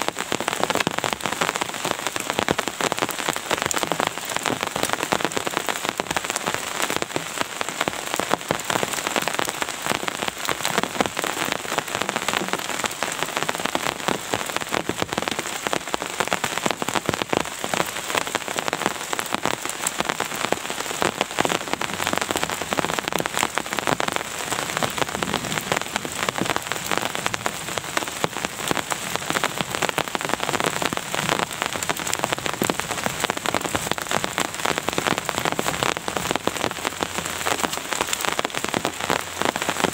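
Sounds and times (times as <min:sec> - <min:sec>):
rain drops ticking on a surface: 0:00.0 - 0:39.9.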